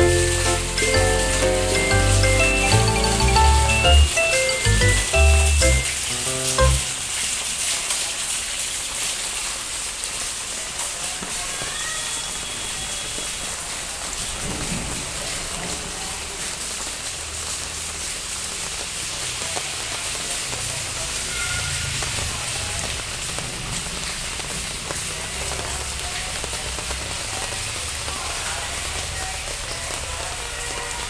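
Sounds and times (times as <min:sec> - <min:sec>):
rain falling on leaves: 0:00.0 - 0:31.0.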